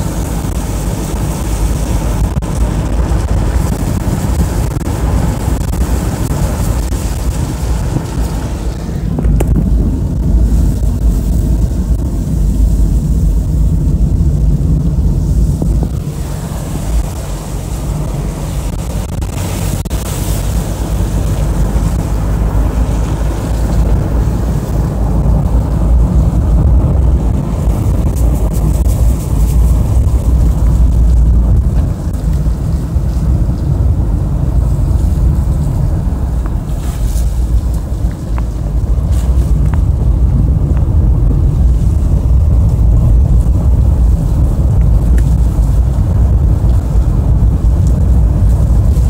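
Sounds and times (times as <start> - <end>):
engine and tyres on wet road: 0.0 - 49.0
wind noise on microphone: 0.0 - 49.0.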